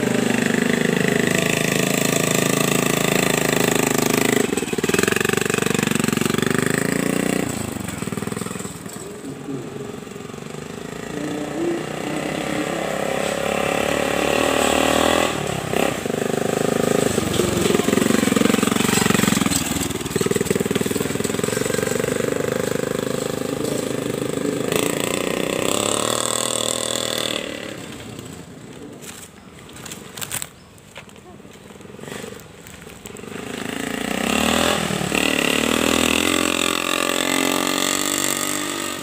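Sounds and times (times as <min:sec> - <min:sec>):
motorcycle engine passing by: 0:00.0 - 0:30.4, 0:31.7 - 0:39.0.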